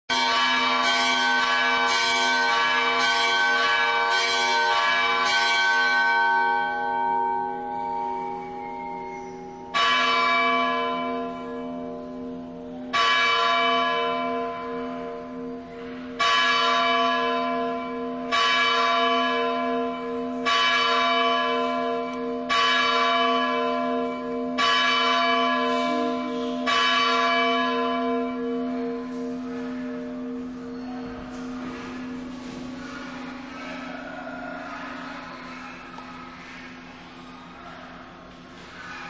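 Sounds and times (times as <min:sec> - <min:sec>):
church bell tolling: 0:00.1 - 0:39.0.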